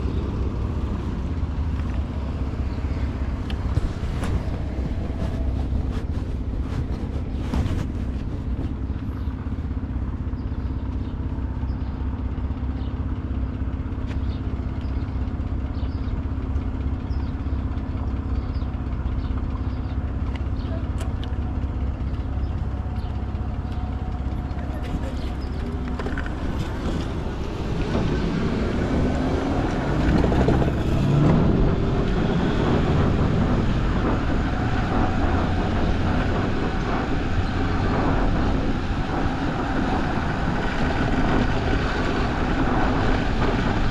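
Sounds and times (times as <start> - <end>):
constant hum: 0.0 - 43.9
street traffic rumble: 0.0 - 43.9.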